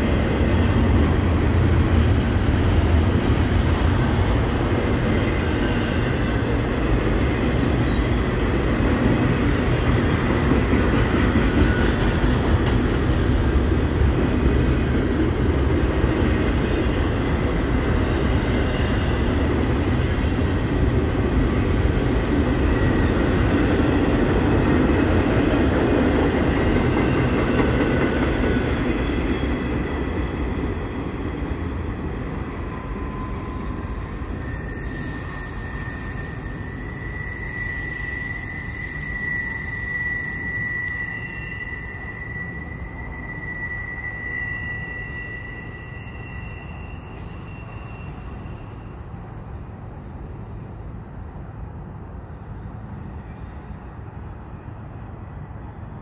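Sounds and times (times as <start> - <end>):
freight train cars rolling on rails: 0.0 - 56.0.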